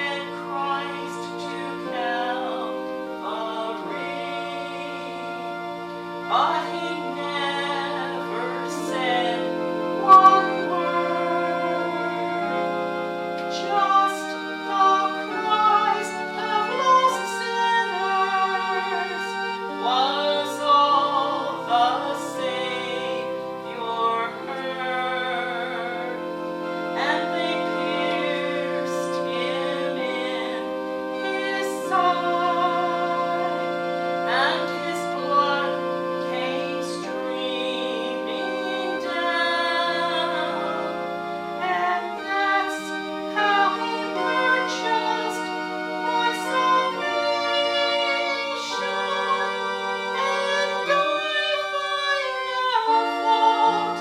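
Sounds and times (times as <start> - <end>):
person singing with vibrato: 0.0 - 54.0
sustained chords: 0.0 - 54.0.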